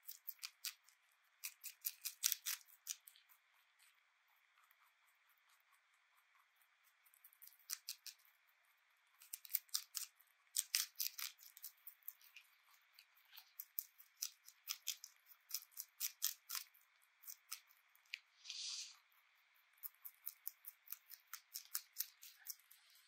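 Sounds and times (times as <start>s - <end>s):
rabbit crunching a leaf: 0.0s - 23.0s.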